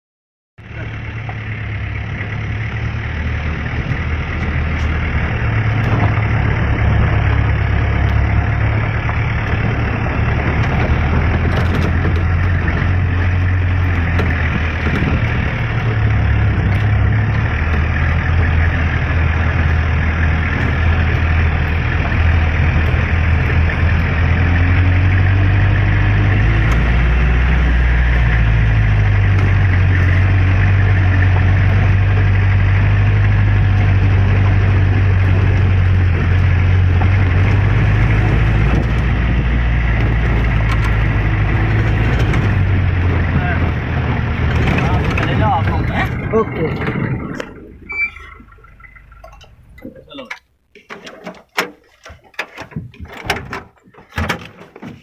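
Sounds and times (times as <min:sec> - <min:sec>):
engine idling: 0:00.6 - 0:53.0.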